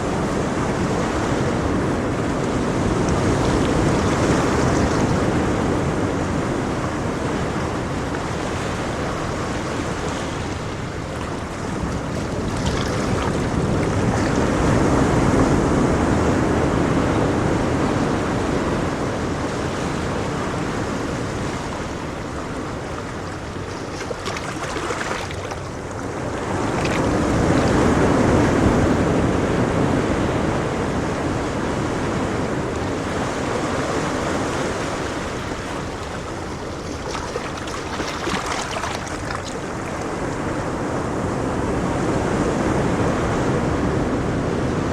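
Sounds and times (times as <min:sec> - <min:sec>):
ocean waves washing onto shore: 0:00.0 - 0:44.9.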